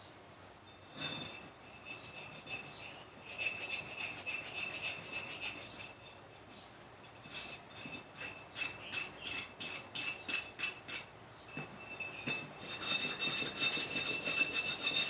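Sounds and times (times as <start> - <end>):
scraping rusty metal: 0.8 - 15.0.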